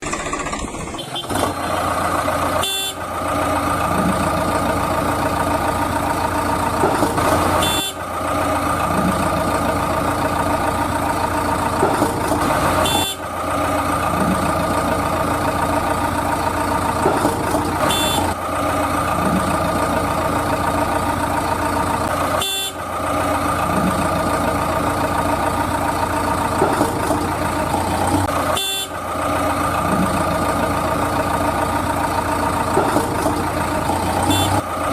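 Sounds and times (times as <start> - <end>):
heavy vehicle engine running: 0.0 - 34.9.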